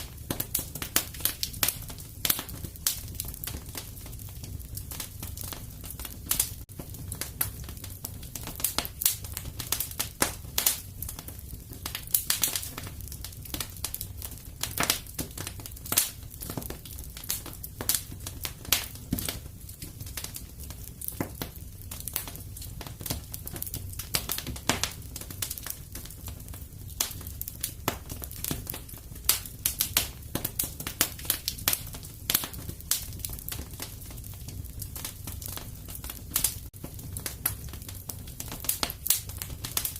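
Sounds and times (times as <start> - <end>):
fire crackling: 0.0 - 39.9
low rumble of fire: 0.0 - 39.9.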